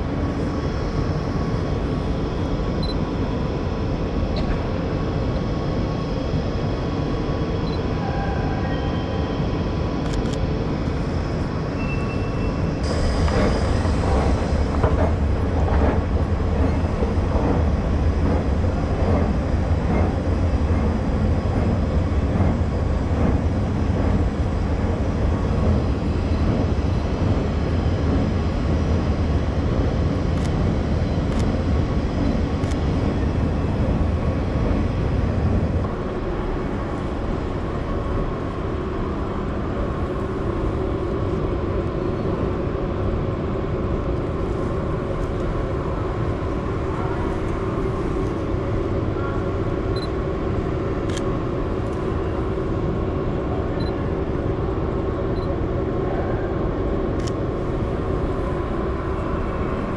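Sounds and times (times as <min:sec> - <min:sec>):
train sounds: 0:00.0 - 0:59.9.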